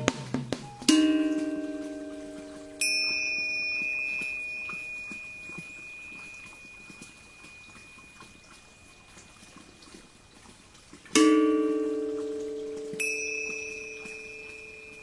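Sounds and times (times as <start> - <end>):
struck metal bell ringing: 0.7 - 9.2, 11.2 - 15.0.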